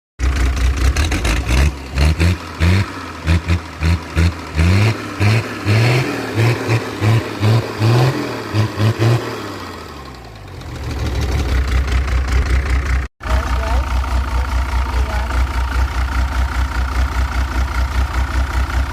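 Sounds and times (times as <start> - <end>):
engine revving: 0.2 - 15.9
engine idling: 0.2 - 18.9.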